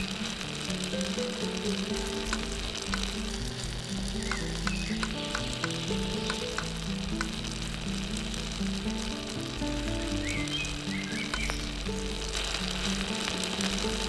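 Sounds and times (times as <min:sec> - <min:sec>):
noodles sizzling in a pot: 0:00.0 - 0:14.0.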